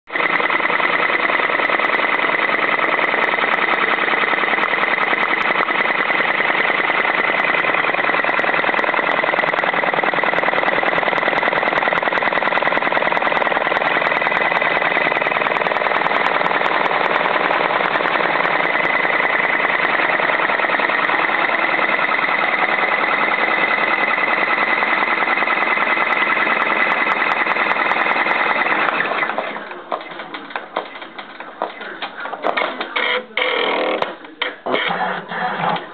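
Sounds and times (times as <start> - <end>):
embroidery machine needle clatter: 0.1 - 35.9.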